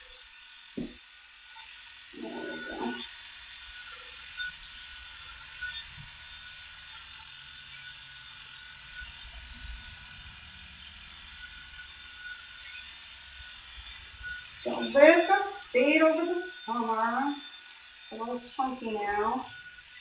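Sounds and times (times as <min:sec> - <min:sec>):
electric clippers running: 0:00.0 - 0:20.0.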